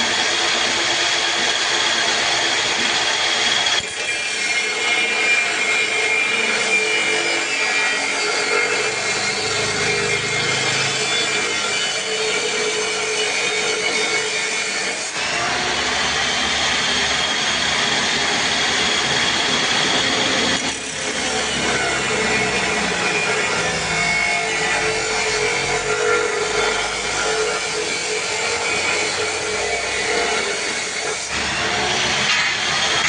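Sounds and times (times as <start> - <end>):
power cutting machine grinding: 0.0 - 33.0.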